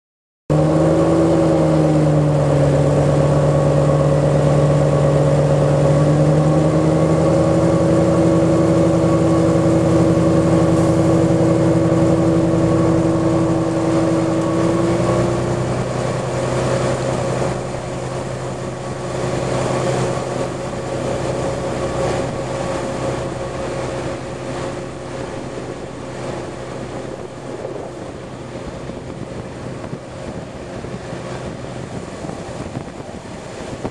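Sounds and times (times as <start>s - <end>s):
diesel locomotive engine hum: 0.5s - 33.9s
rushing wind: 0.5s - 33.9s.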